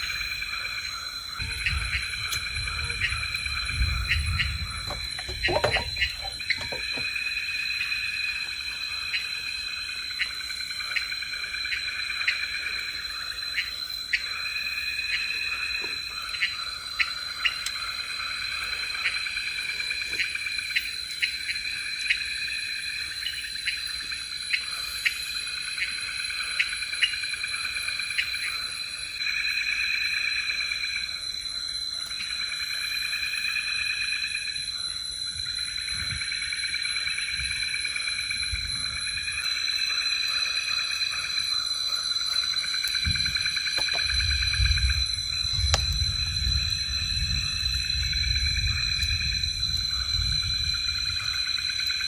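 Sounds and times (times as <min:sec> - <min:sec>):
high-pitched insect drone: 0:00.0 - 0:52.0
pulsing insect chirring: 0:00.0 - 0:52.0.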